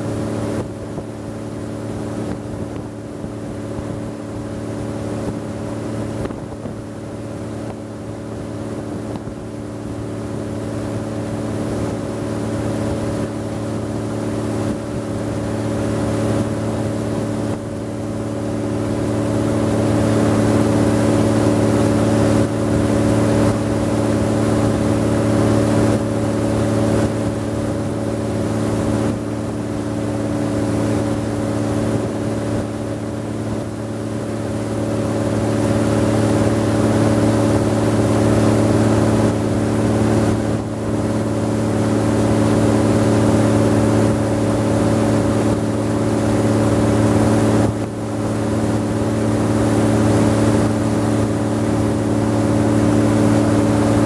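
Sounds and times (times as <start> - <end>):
boat engine drone: 0.0 - 54.0.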